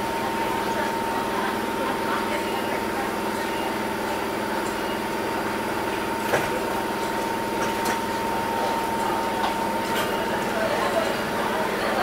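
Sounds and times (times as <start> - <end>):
electric train equipment hum: 0.0 - 12.0.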